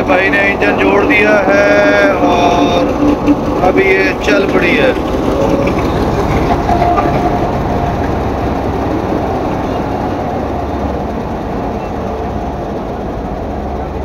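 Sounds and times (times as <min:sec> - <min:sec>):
diesel locomotive engine rumbling: 0:00.0 - 0:14.0.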